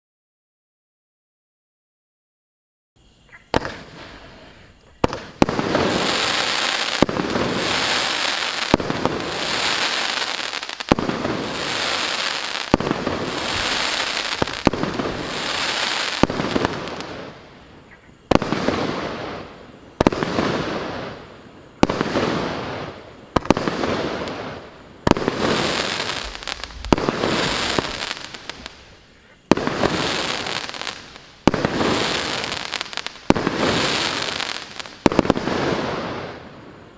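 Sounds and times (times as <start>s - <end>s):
fireworks crackling: 3.0s - 36.9s
firework shots: 3.5s - 36.8s.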